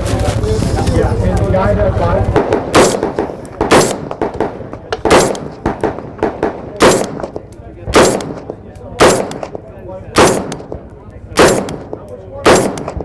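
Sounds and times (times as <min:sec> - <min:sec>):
rifle shots with ring-out: 0:02.2 - 0:13.0
faint sharp cracks: 0:02.3 - 0:13.0.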